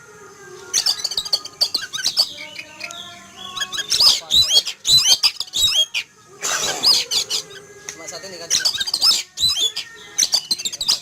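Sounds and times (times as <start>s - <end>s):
bird singing whistled notes: 0.7s - 11.0s.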